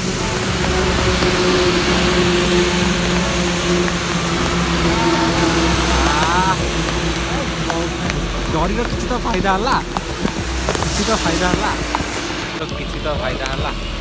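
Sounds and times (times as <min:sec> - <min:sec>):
road noise on wet road: 0:00.0 - 0:14.0
vehicle engine humming: 0:00.0 - 0:14.0
wavering rising tones: 0:00.0 - 0:14.0.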